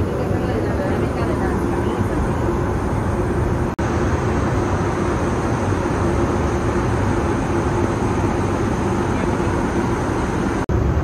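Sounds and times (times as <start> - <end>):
aircraft cabin engine rush: 0.0 - 11.0
steady hum: 0.0 - 11.0.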